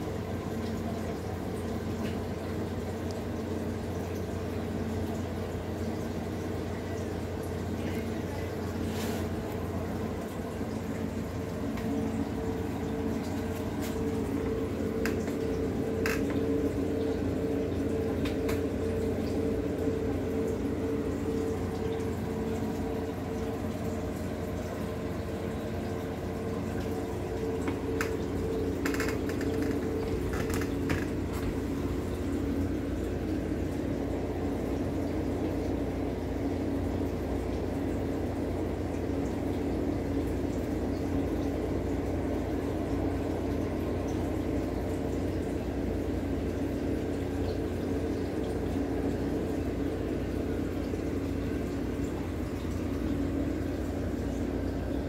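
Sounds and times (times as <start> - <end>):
aquarium water bubbling: 0.0 - 55.0
tank equipment hum: 0.0 - 55.0.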